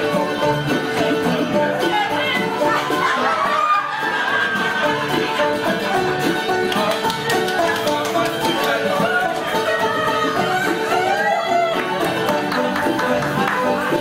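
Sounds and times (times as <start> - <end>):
voices of guests: 0.0 - 14.0.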